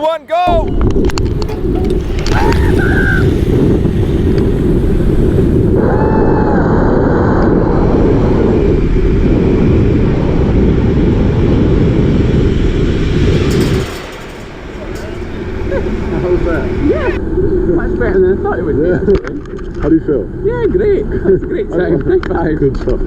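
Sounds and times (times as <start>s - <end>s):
wind buffeting microphone: 0.5s - 23.0s.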